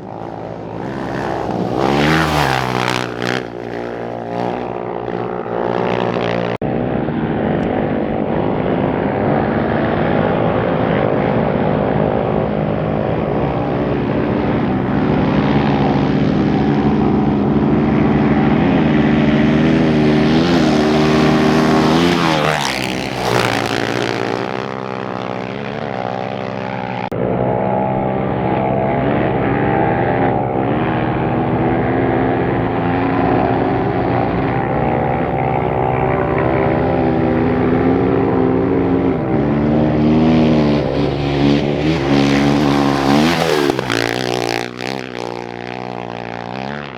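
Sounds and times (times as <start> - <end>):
motorcycle engines passing at speed: 0.0 - 46.9.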